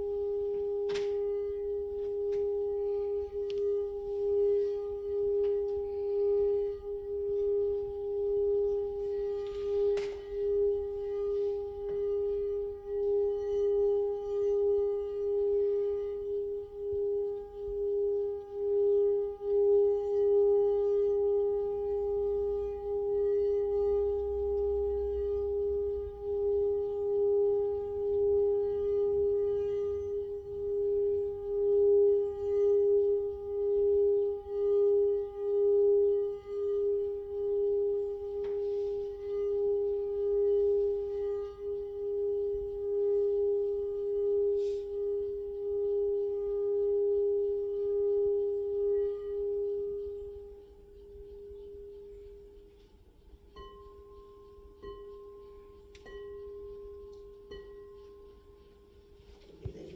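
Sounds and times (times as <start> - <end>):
singing bowl tone: 0.0 - 59.9.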